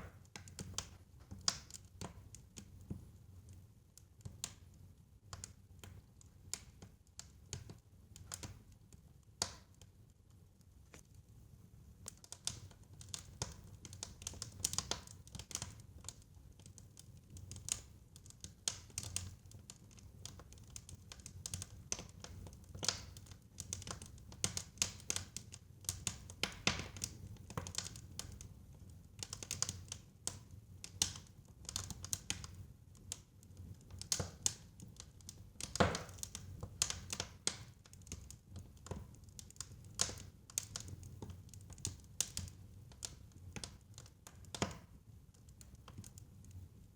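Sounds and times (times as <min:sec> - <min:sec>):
fire crackling in fireplace: 0:00.0 - 0:46.9.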